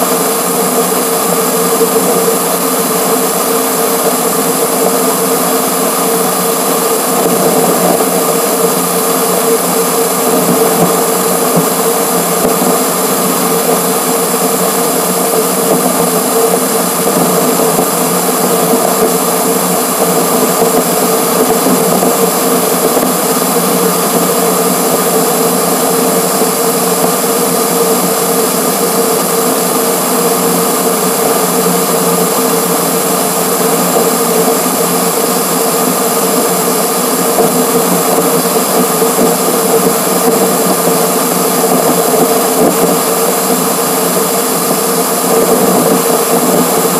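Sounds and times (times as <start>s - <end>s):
constant hum: 0.0s - 46.9s
high machine-like whirring rush: 0.0s - 46.9s.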